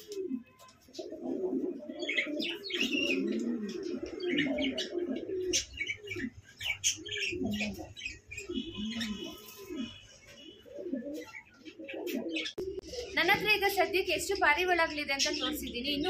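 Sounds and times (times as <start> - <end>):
pigeons cooing: 0.0 - 16.0
high chirping calls: 1.9 - 16.0.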